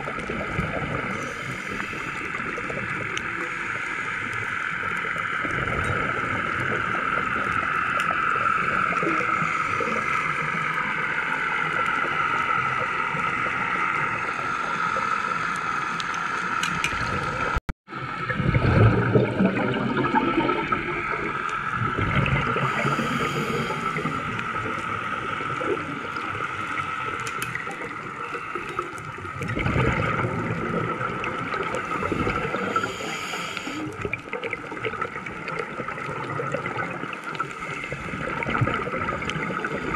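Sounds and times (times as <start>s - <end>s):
underwater water hiss: 0.0s - 17.5s, 18.7s - 35.3s, 36.6s - 39.9s
regulator bubbles gurgling: 0.0s - 39.9s.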